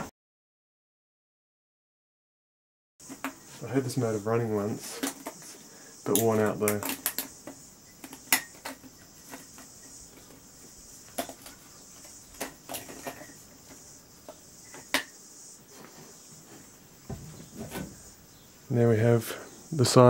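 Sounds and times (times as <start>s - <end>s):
steady high hiss: 3.0s - 20.0s.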